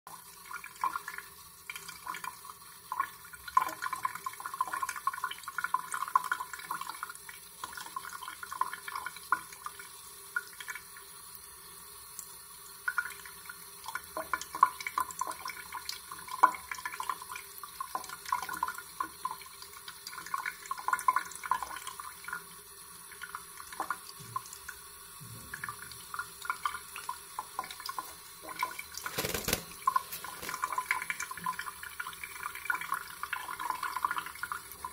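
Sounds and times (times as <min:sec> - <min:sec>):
tap water running into sink: 0:00.1 - 0:11.2, 0:12.2 - 0:34.9.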